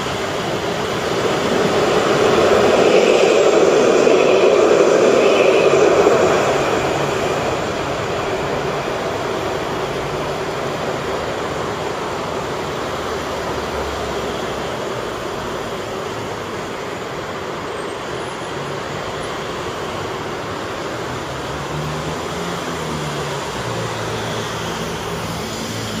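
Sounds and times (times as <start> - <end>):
street traffic hum: 0.0 - 26.0
tram passing on rails: 0.0 - 26.0.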